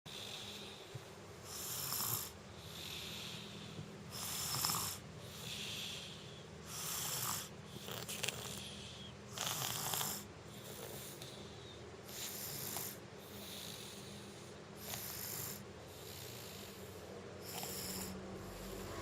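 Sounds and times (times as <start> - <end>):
soft hissing breaths: 0.1 - 19.0.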